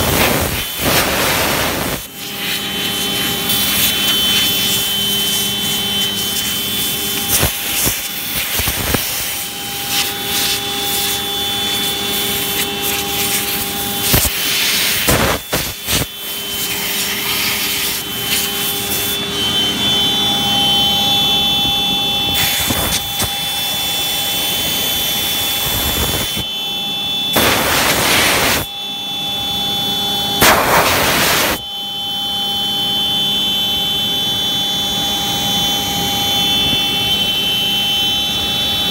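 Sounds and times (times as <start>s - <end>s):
router spindle whine: 0.0s - 38.9s.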